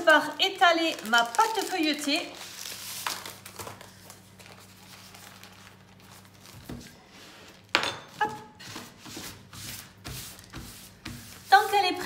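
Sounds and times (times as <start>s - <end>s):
baking parchment rustling: 0.0s - 7.8s, 8.5s - 12.0s.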